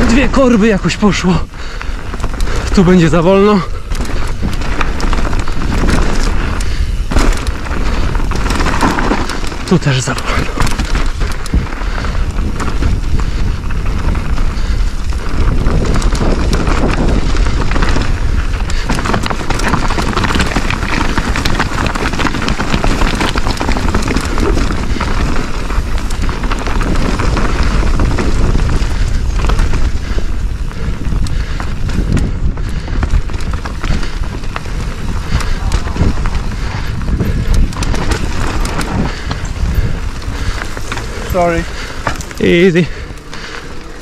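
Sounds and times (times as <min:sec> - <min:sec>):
bike rattling over rocks: 0:00.0 - 0:44.0
bike tyres on dirt and stones: 0:00.0 - 0:44.0
wind buffeting microphone: 0:00.0 - 0:44.0.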